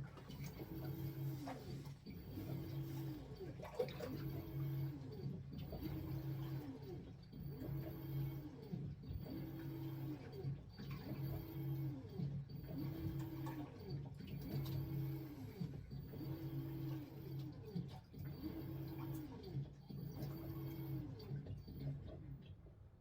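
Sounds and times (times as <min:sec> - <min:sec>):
washing machine agitating: 0:00.0 - 0:22.5.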